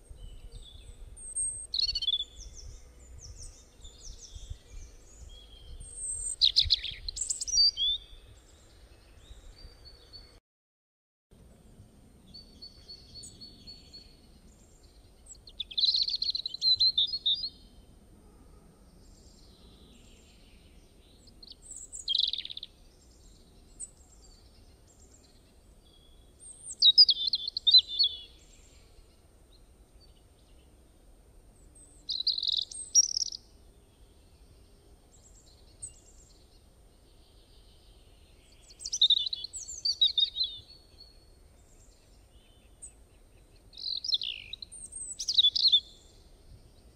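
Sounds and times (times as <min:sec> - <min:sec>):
bird chirping song: 0:00.0 - 0:10.4, 0:11.4 - 0:46.9.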